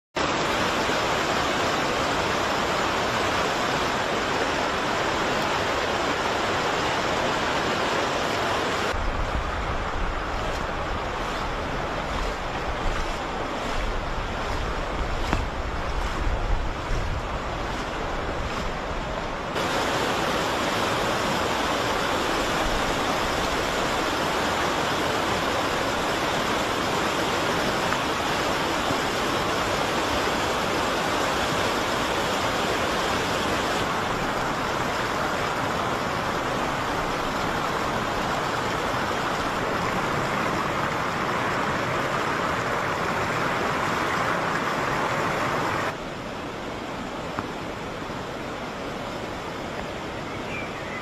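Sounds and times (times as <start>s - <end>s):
floodwater rushing through street: 0.2s - 51.0s.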